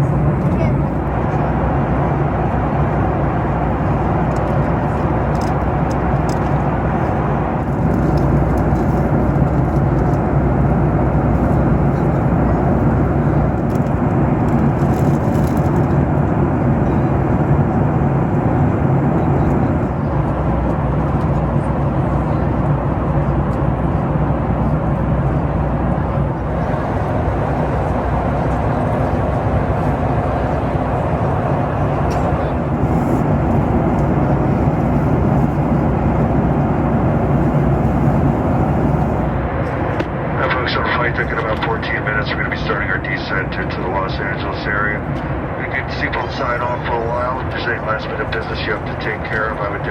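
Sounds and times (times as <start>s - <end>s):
airplane cabin noise: 0.0s - 49.9s.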